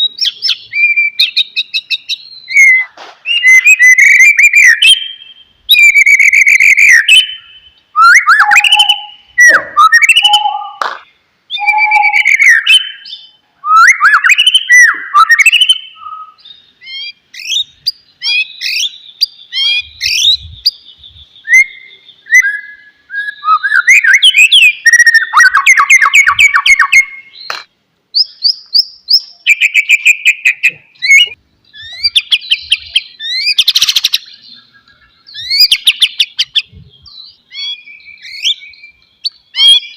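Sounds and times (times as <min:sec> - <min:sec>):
bird singing whistled phrases: 0:00.0 - 0:27.5, 0:28.2 - 0:39.9.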